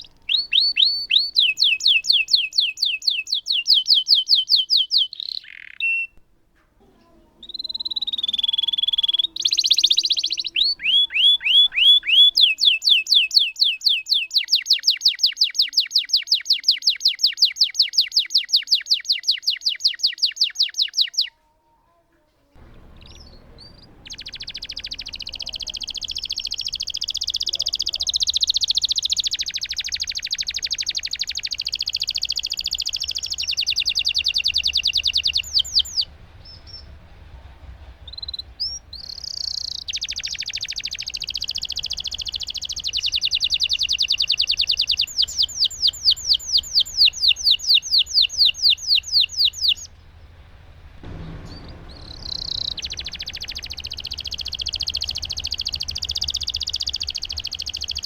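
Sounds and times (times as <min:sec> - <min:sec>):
canary chirps: 0:00.0 - 0:06.2, 0:07.0 - 0:21.5, 0:22.6 - 0:36.9, 0:38.1 - 0:49.9, 0:51.0 - 0:58.0
canary singing trills: 0:00.0 - 0:06.2, 0:07.2 - 0:21.4, 0:22.6 - 0:36.9, 0:38.1 - 0:50.0, 0:51.0 - 0:58.0.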